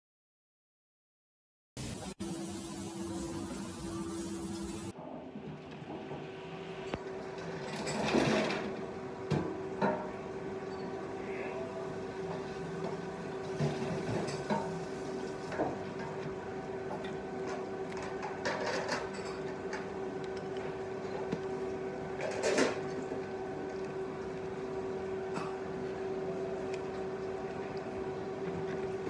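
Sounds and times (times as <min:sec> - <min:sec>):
steady background hum: 0:02.0 - 0:29.0.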